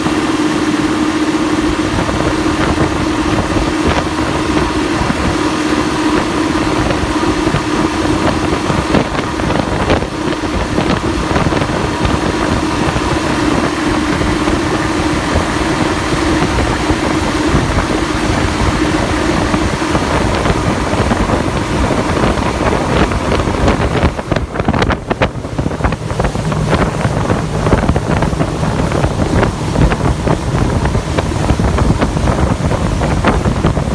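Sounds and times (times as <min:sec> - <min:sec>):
motorboat engine hum: 0:00.0 - 0:33.9
rushing water: 0:00.0 - 0:33.9
wind buffeting microphone: 0:00.0 - 0:33.9.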